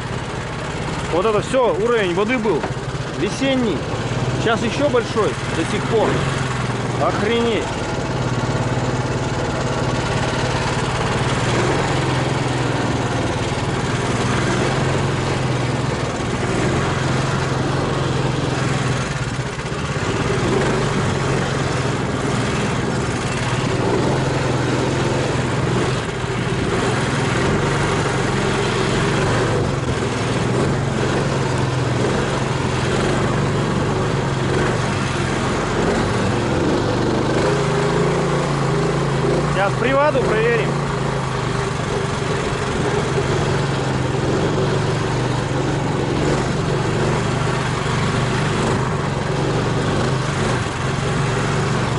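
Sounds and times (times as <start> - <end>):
all-terrain vehicle engine running: 0.0 - 51.9.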